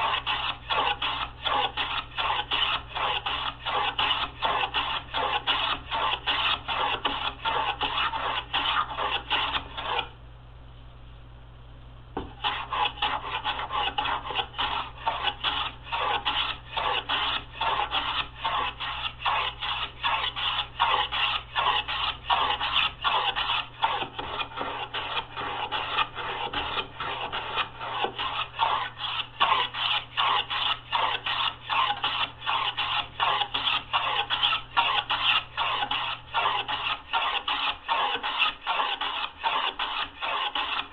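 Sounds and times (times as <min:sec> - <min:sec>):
hand plane scraping wood: 0:00.0 - 0:10.1, 0:12.2 - 0:40.9
faint electrical hum: 0:00.0 - 0:40.9.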